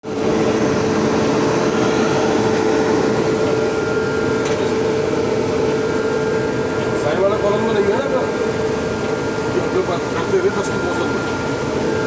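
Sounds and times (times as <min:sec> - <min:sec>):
locomotive cab machinery hum: 0:00.1 - 0:12.0.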